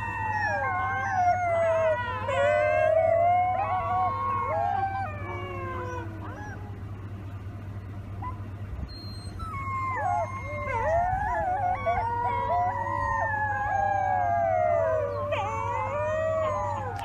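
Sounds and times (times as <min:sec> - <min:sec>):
wolf pups howling: 0:00.0 - 0:07.4, 0:08.1 - 0:17.0
steady low hum: 0:00.0 - 0:17.0.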